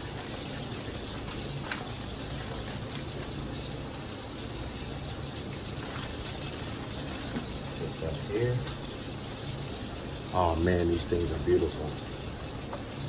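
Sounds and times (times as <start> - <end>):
steak sizzling in a pan: 0.0 - 10.5.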